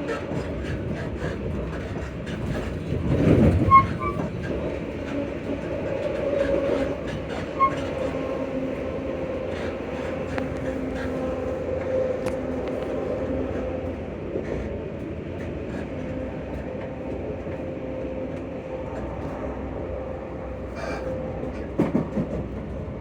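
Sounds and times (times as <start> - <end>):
train wheels clicking on rails: 0.0 - 19.9, 20.6 - 23.0.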